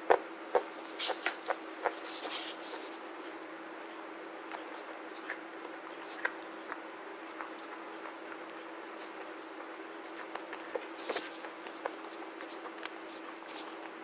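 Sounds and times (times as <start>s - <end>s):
faint hum: 0.0s - 14.0s
slate being chewed: 0.1s - 14.0s.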